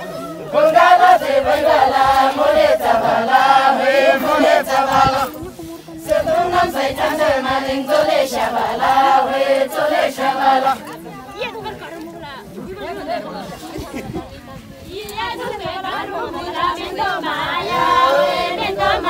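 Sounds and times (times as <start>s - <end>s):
group singing folk song: 0.0s - 19.0s.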